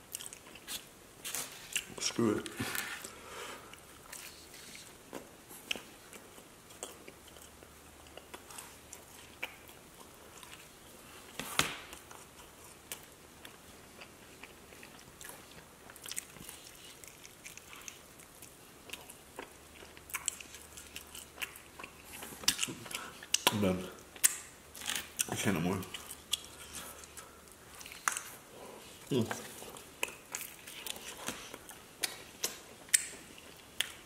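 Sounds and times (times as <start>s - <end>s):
person chewing pizza: 0.0s - 34.0s.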